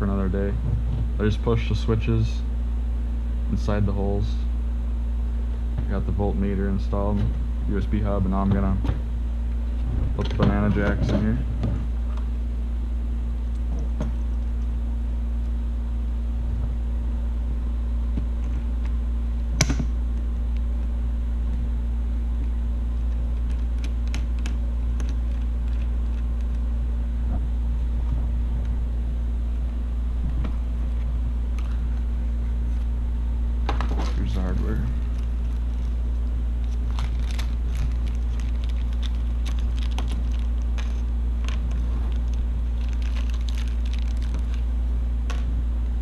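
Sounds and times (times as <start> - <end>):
constant tone: 0.0 - 46.0
steady low hum: 0.0 - 46.0.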